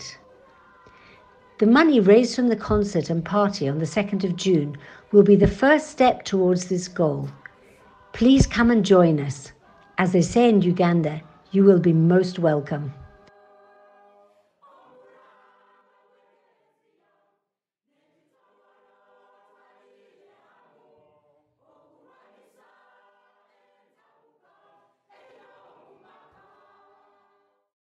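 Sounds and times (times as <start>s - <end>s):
faint choir singing: 0.0s - 27.7s.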